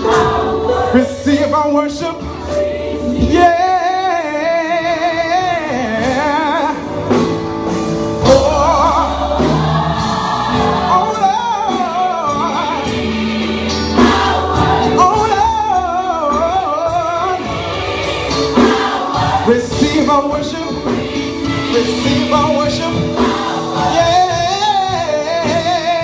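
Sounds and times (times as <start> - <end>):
gospel choir singing: 0.0 - 26.0.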